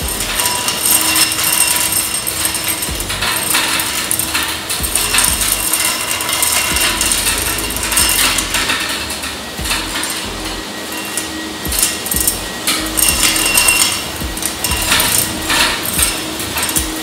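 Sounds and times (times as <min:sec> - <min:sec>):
industrial vacuum running: 0:00.0 - 0:17.0
stones rattling in metal tube: 0:00.0 - 0:17.0.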